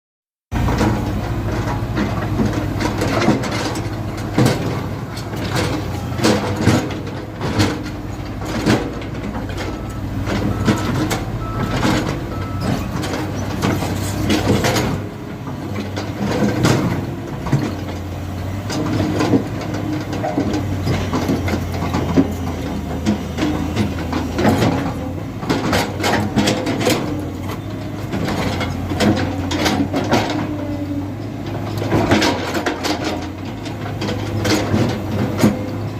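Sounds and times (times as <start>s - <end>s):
sharp knocks and clanks: 0.5s - 30.6s, 31.4s - 35.9s
diesel engine running: 0.5s - 35.9s.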